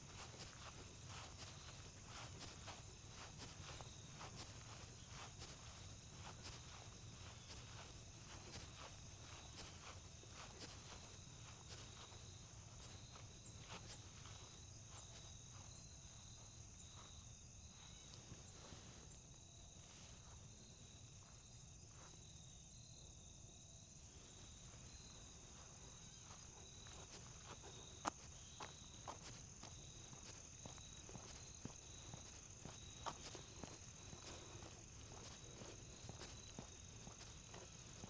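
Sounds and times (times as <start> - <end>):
crickets trilling: 0.0 - 38.0
footsteps crunching on a trail: 0.0 - 38.0.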